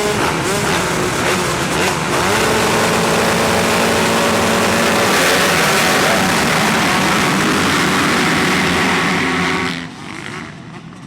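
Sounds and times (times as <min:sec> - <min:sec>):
motocross engines revving high: 0:00.0 - 0:10.7.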